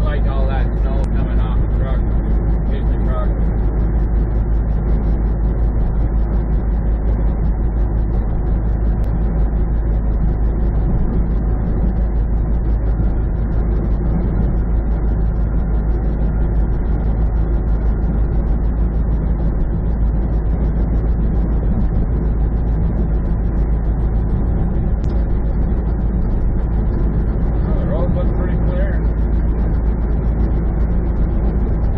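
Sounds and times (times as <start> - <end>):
truck engine and tyres droning: 0.0 - 31.9.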